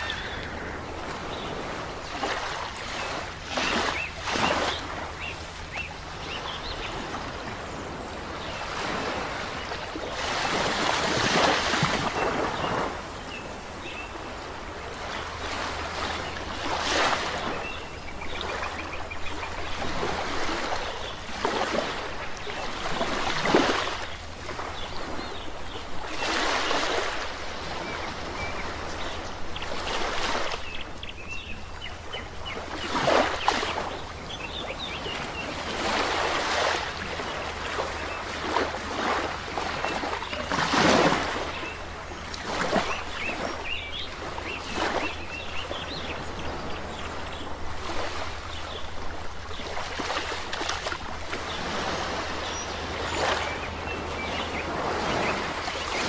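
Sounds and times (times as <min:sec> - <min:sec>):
birds chirping faintly: 0:00.0 - 0:56.0
small waves breaking on beach: 0:00.0 - 0:56.0.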